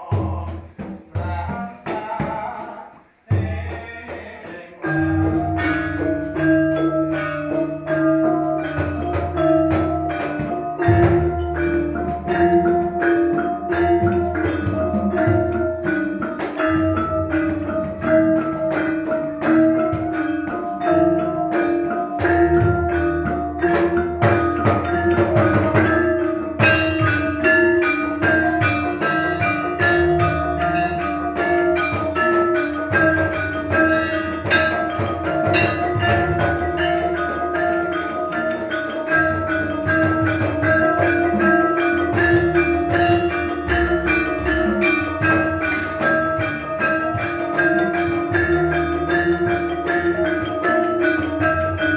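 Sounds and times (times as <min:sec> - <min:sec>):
metallophones struck and ringing: 0:04.8 - 0:51.9.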